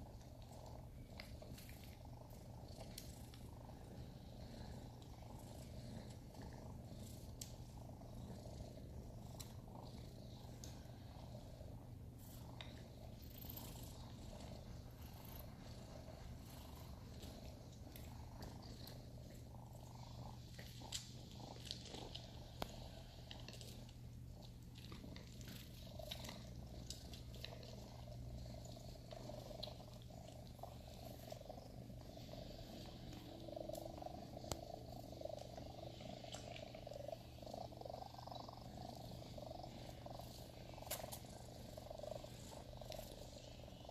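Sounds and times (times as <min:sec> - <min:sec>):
faint clicks and rustles: 0:00.0 - 0:43.9
kittens purring: 0:00.0 - 0:43.9.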